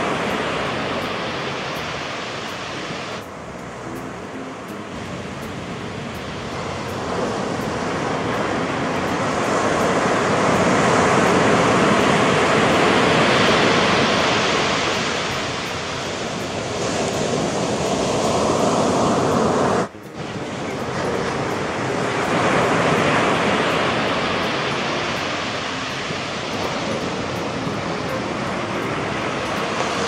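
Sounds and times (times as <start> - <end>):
surf breaking on shore: 0.0 - 30.0.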